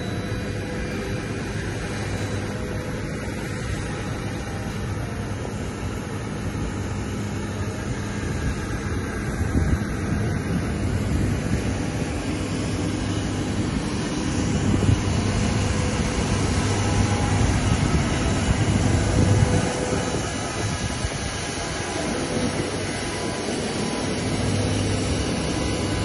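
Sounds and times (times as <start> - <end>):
constant rushing hiss: 0.0 - 26.0
low machinery hum: 0.0 - 26.0.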